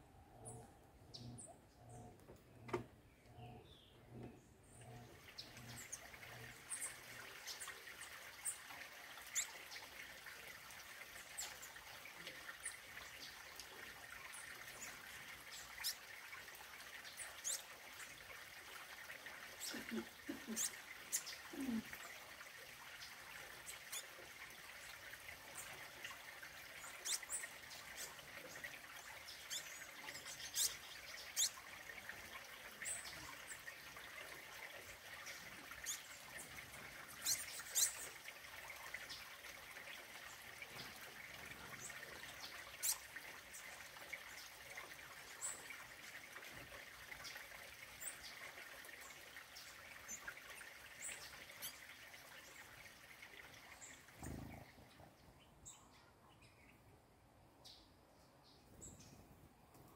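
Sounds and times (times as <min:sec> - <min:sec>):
songbirds chipping and calling: 0:00.0 - 0:59.9.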